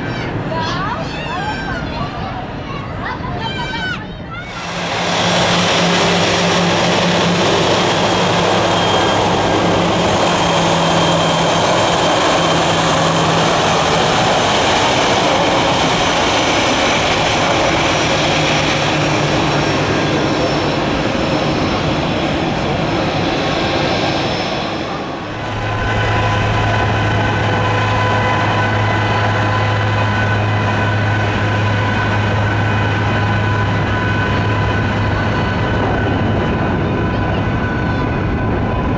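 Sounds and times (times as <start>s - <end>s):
jet engines humming and whining: 0.0s - 38.9s
jet engines rushing with whine: 0.0s - 38.9s.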